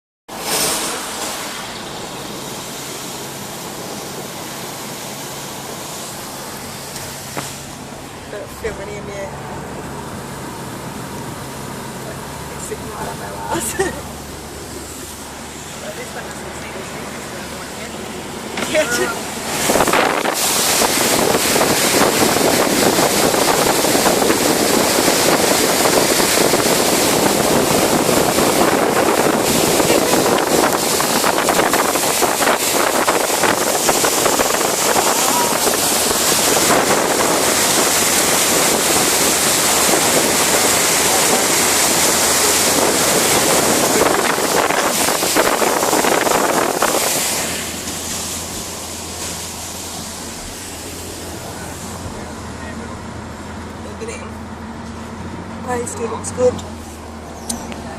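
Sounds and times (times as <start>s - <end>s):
car driving through flood water: 0.3s - 57.9s
faint low car hum: 0.3s - 57.9s
water spraying off tyres: 0.3s - 57.9s.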